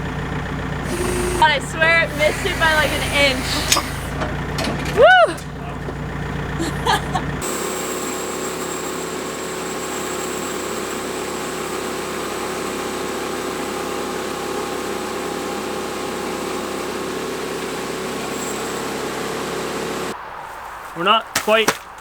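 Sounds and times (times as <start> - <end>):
engine running steadily: 0.0 - 20.2.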